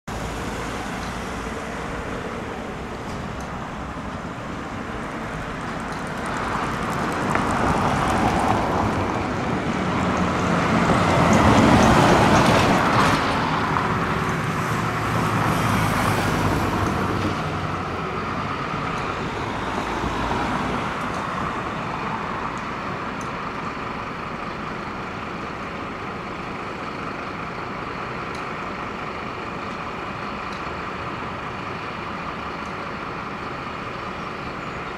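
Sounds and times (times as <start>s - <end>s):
vehicles passing: 0.1s - 34.9s.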